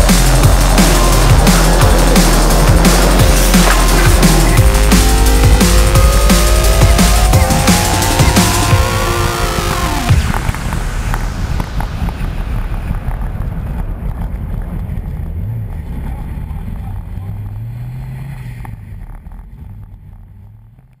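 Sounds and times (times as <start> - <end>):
car engine rumble: 0.0 - 21.0.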